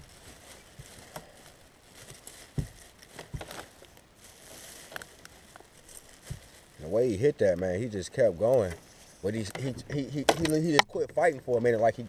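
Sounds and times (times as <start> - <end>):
low steady hiss: 0.0 - 12.0.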